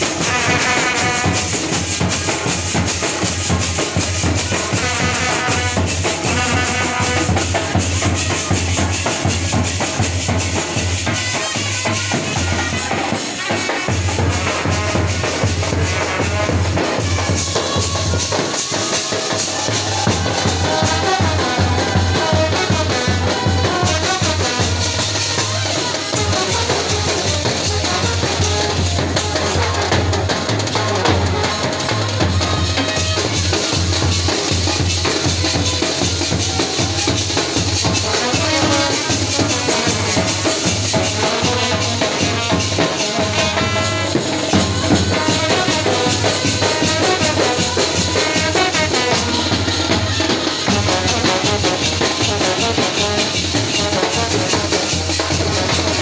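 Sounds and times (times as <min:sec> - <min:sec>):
fast dense drumming: 0:00.0 - 0:56.0
procession band playing: 0:00.0 - 0:56.0.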